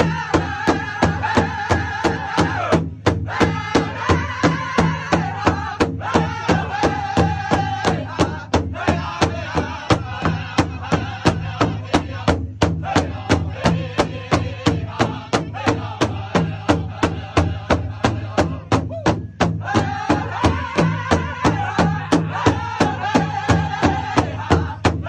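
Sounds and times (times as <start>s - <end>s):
large drum beating: 0.0s - 25.0s
men singing together: 0.0s - 25.0s.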